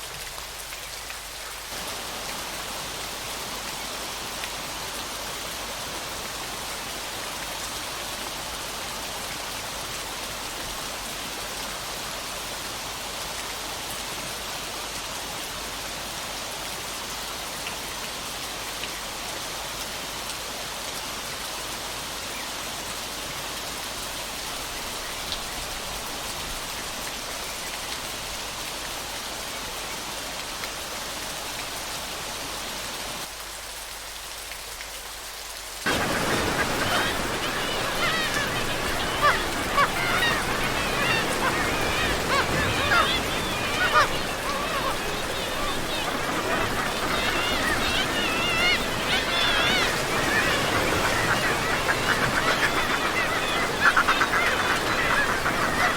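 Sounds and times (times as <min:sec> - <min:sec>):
splashing falling water: 0:00.0 - 0:55.9.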